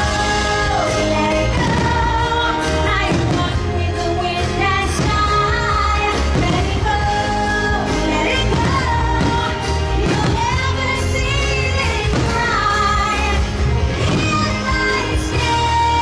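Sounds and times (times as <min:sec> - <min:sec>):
fireworks bangs: 0:00.0 - 0:03.7, 0:04.8 - 0:16.0
pop music with woman singing: 0:00.0 - 0:16.0.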